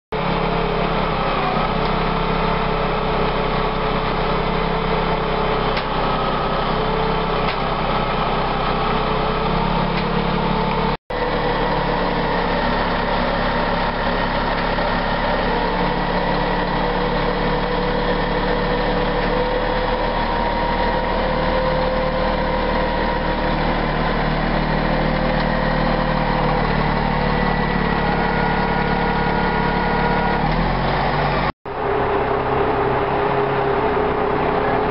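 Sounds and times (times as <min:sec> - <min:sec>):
crane engine running: 0:00.1 - 0:34.9.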